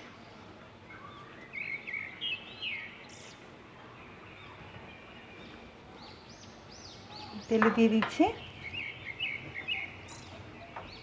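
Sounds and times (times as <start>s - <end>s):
faint steady hiss: 0.0s - 11.0s
small birds chirping: 0.0s - 11.0s.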